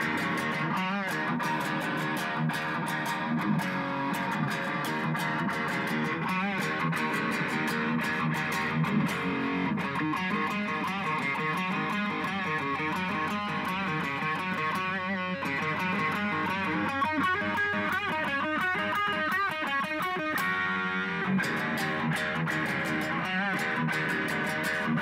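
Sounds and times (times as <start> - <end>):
electric guitar melody: 0.0 - 25.0.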